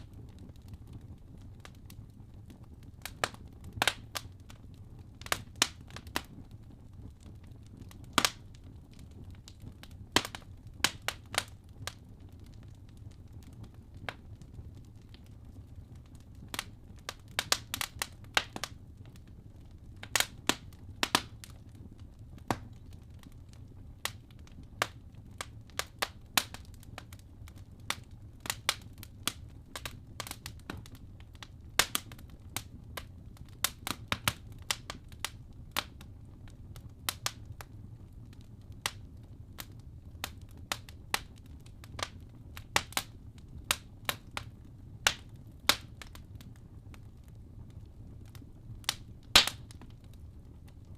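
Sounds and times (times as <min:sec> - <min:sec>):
logs crackling and popping: 0:00.0 - 0:50.9
low rumble of flames: 0:00.0 - 0:50.9.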